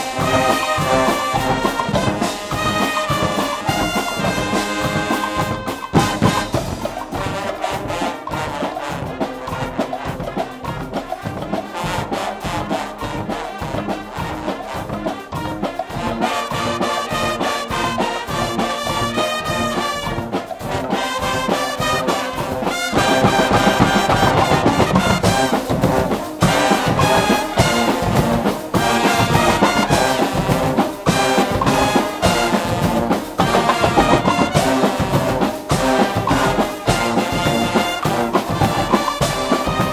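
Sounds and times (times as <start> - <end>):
loud brass band: 0.0 - 39.9
steady drum beat: 0.0 - 39.9.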